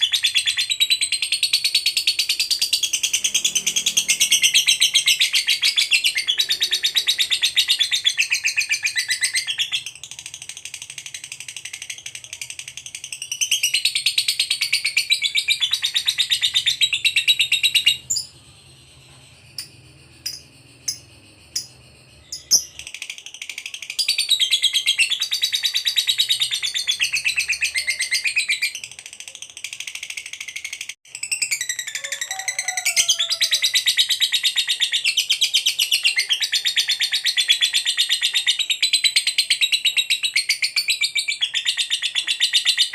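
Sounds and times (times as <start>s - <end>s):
lovebird chattering trill: 0.0s - 18.5s, 19.4s - 42.9s
sharp bird chirps: 0.0s - 42.9s.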